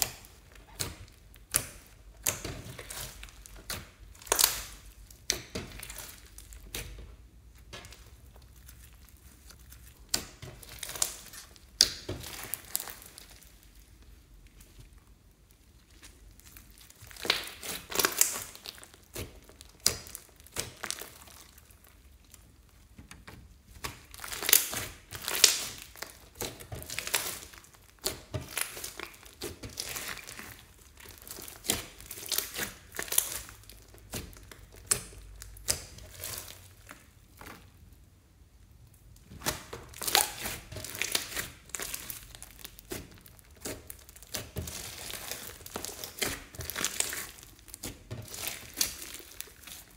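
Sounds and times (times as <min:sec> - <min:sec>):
slime crackling wetly: 0:00.0 - 0:49.9.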